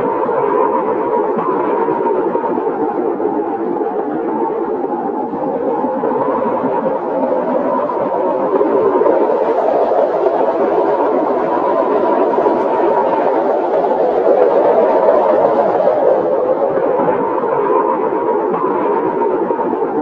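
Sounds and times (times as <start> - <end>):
steady wind rushing: 0.0 - 20.0.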